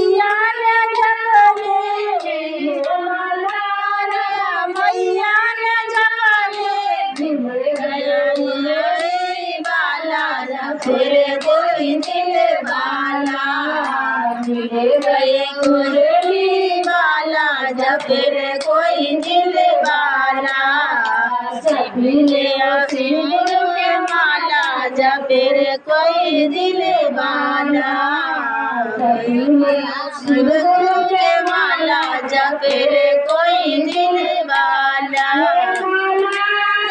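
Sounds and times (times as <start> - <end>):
hand clapping in time: 0.0 - 26.0, 29.9 - 36.9
women singing devotional song: 0.0 - 36.9.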